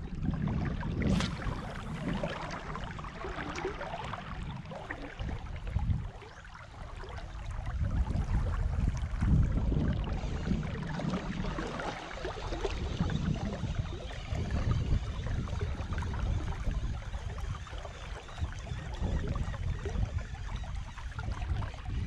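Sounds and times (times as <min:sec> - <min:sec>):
seawater sloshing and splashing: 0:00.0 - 0:22.0
wind rumble on microphone: 0:00.0 - 0:22.0.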